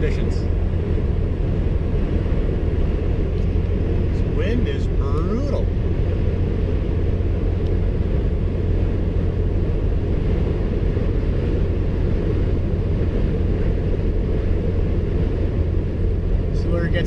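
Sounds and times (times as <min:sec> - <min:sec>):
engine at high revs: 0:00.0 - 0:17.0
wind against a truck: 0:00.0 - 0:17.0.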